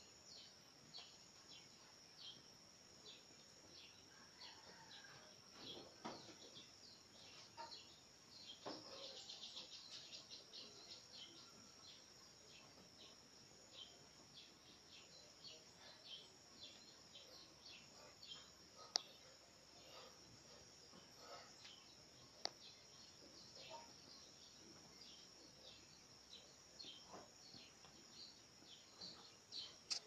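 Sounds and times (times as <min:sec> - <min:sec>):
faint high chirping: 0:00.0 - 0:30.0.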